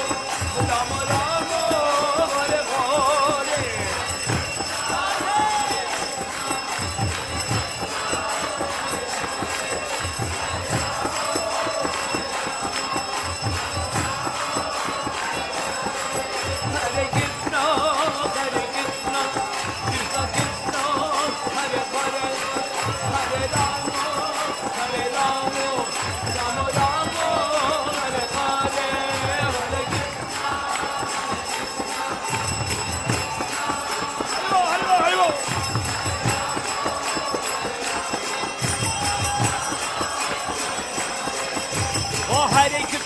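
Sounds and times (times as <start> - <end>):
drums beating steady rhythm: 0.0 - 43.0
hand cymbals jingling: 0.0 - 43.0
harmonium: 0.0 - 43.0.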